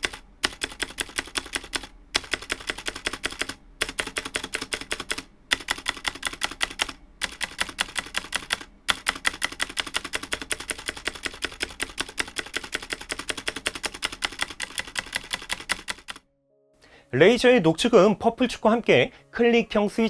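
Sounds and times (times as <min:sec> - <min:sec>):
clicky mechanical keyboard typing: 0:00.0 - 0:16.2.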